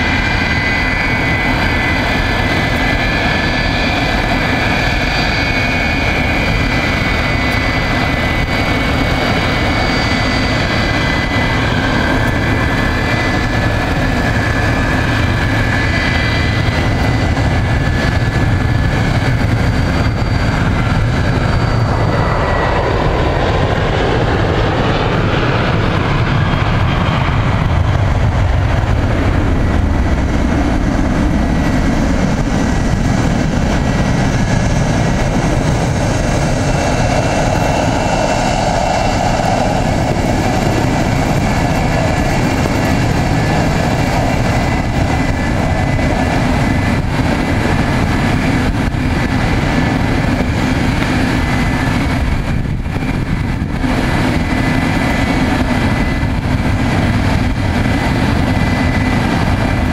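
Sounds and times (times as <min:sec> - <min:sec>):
jet engine roar with whine: 0:00.0 - 0:59.9.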